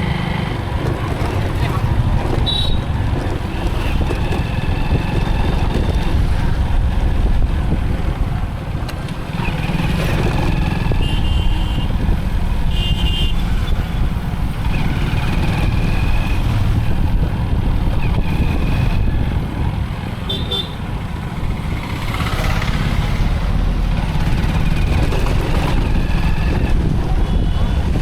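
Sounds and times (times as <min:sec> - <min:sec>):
motorcycle engine rumble: 0:00.0 - 0:28.0
wind noise on microphone: 0:00.0 - 0:28.0.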